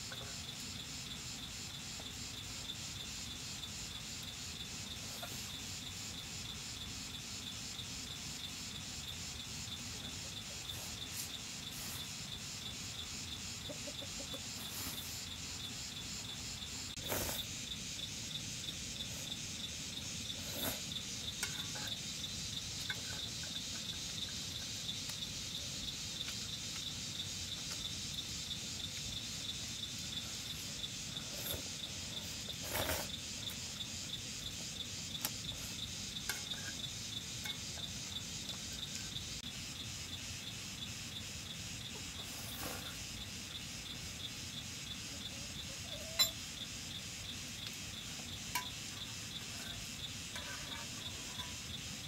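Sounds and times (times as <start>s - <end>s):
insects trilling: 0.0s - 52.0s.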